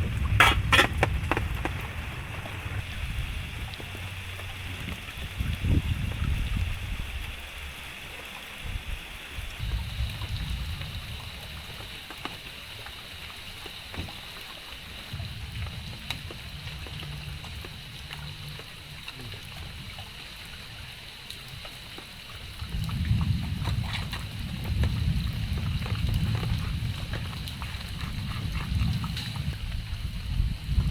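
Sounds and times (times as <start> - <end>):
wind rumble on microphone: 0.0 - 14.2, 15.0 - 30.9
rain hiss: 0.0 - 30.9.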